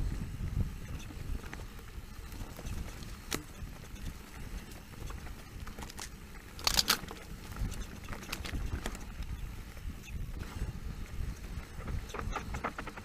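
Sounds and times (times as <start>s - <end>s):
bike rattling over ground: 0.0s - 13.0s
wind rumble on microphone: 0.0s - 13.0s.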